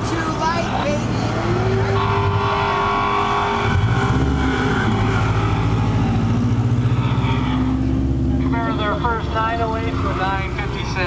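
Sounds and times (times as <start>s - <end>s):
car engine running low: 0.0s - 11.0s.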